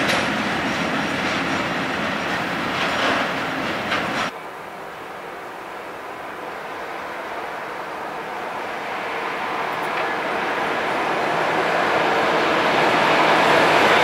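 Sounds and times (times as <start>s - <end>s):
electric locomotive approaching: 0.0s - 14.0s.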